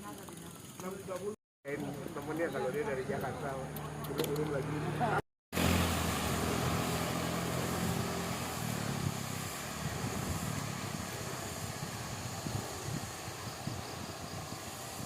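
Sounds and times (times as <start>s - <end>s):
vehicle engine hum: 1.7s - 15.0s
wind and road noise: 1.9s - 15.0s.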